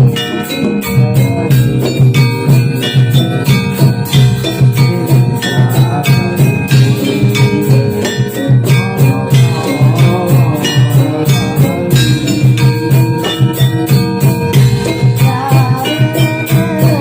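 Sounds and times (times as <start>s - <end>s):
high jingling: 0.0s - 17.0s
low drum beat: 0.0s - 17.0s
pitched percussion: 0.0s - 17.0s.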